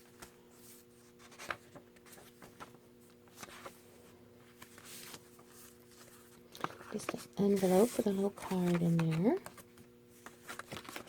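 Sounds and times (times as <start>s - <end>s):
low steady hum: 0.0s - 11.0s
paper pages rustling: 0.0s - 11.0s.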